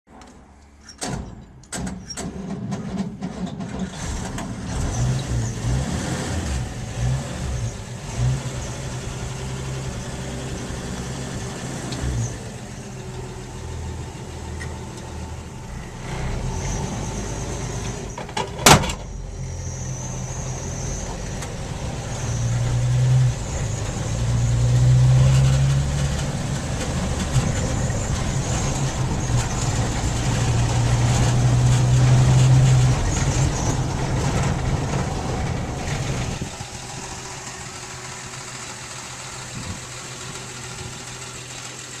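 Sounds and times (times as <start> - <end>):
truck engine running: 3.9 - 42.0.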